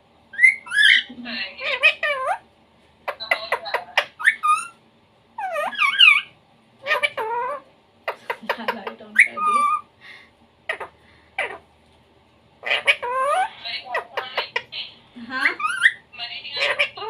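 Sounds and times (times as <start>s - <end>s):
parakeet chattering: 0.3s - 4.8s, 5.4s - 10.0s, 10.6s - 11.7s, 12.6s - 17.0s.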